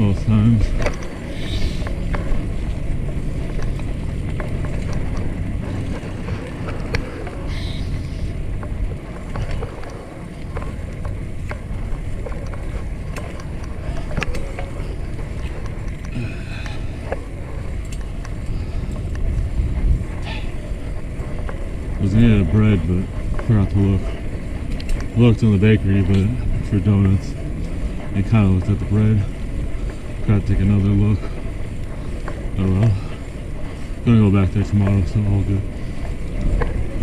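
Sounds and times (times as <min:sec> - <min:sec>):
bicycle road rumble: 0:00.0 - 0:37.0
light clicks and rattles: 0:00.0 - 0:37.0
wind on microphone: 0:00.0 - 0:37.0.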